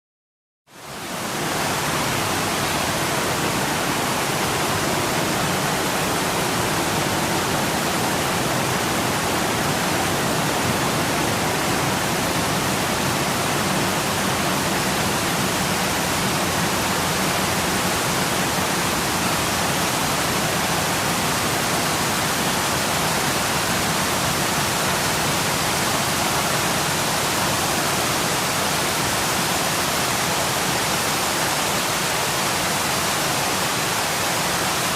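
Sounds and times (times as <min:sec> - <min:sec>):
waterfall rushing: 0:00.7 - 0:34.9.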